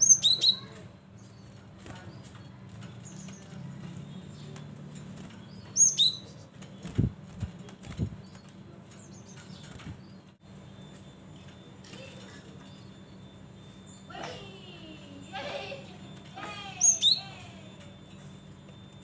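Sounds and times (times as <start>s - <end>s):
faint bird chirps: 0.0s - 19.0s
steady low hum: 0.0s - 19.0s.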